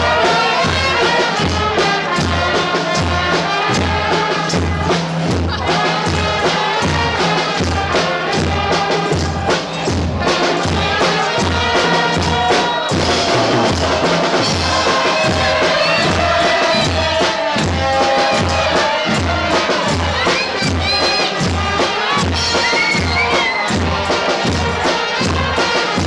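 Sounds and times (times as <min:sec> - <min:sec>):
brass band music: 0:00.0 - 0:26.0.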